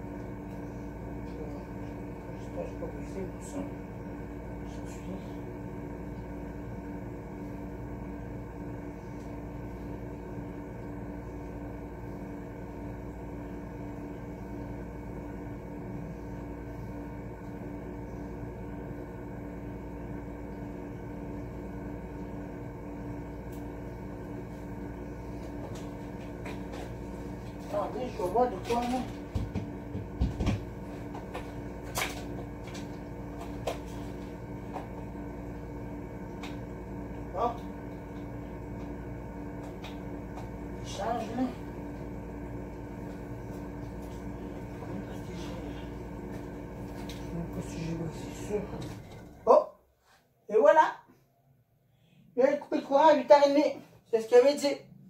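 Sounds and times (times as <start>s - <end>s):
electrical device humming: 0.0s - 49.7s.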